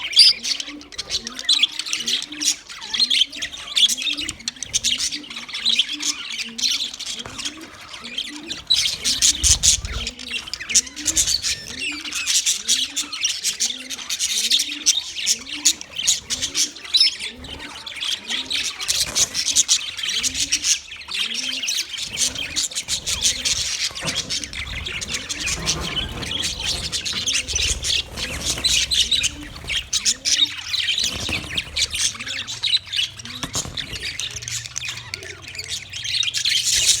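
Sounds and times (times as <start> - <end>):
budgerigars chattering: 0.0 - 37.0.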